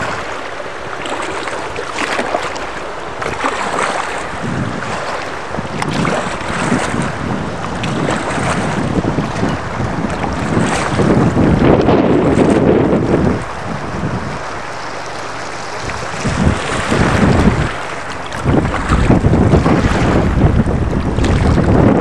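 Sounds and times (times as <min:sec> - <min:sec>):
river water rushing and splashing: 0:00.0 - 0:22.0
wind buffeting microphone: 0:00.0 - 0:22.0.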